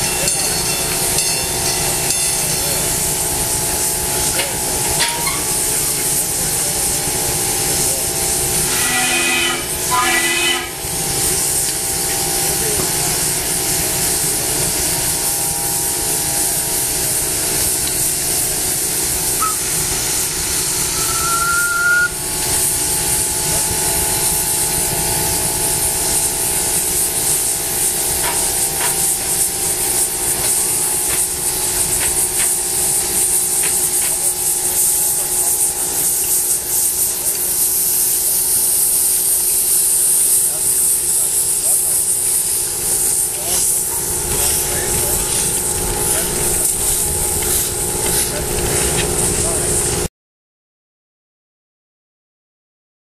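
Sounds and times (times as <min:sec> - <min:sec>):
steam hissing: 0:00.0 - 0:50.1.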